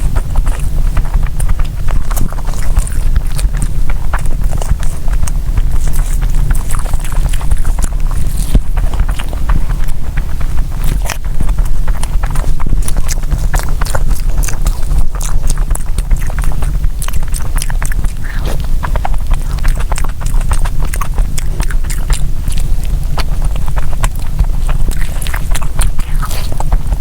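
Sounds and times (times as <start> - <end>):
low hum: 0.0 - 27.0
mouth clicks: 0.0 - 27.0
wet chewing and lip smacking: 0.0 - 27.0.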